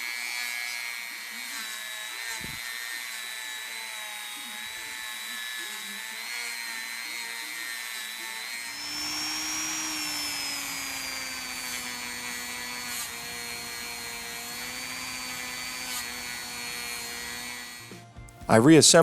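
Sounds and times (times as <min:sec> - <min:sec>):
small power tool whining: 0:00.0 - 0:18.5.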